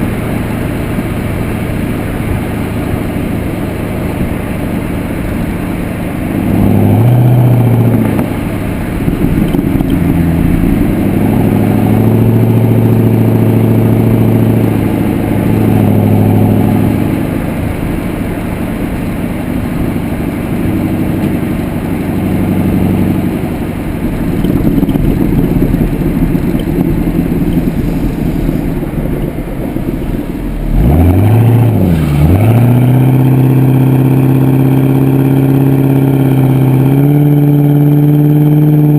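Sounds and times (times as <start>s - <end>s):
car exhaust note: 0.0s - 38.9s
engine revving: 0.0s - 38.9s.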